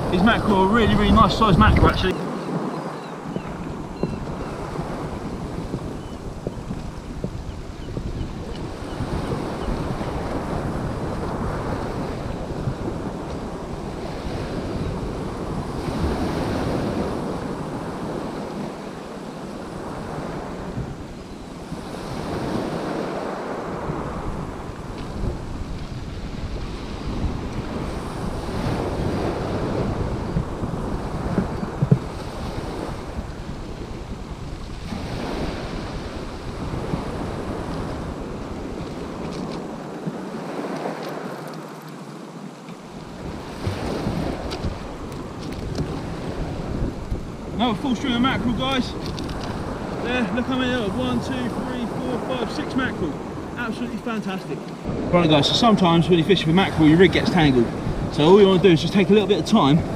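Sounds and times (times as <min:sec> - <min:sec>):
waves washing on shingle beach: 0:00.0 - 0:59.9
wind buffeting microphone: 0:00.0 - 0:59.9.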